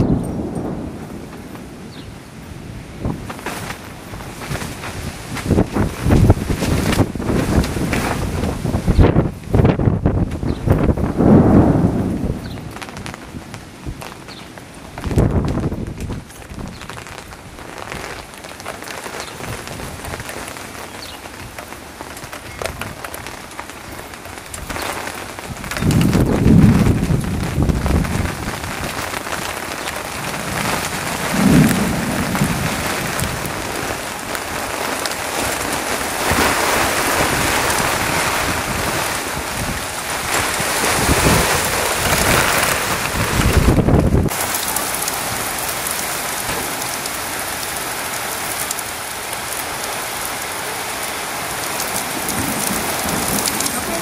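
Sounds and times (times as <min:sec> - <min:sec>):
thunder rumbling: 0:00.0 - 0:18.0, 0:24.6 - 0:47.8, 0:51.0 - 0:54.0
steady rain falling: 0:00.0 - 0:54.0.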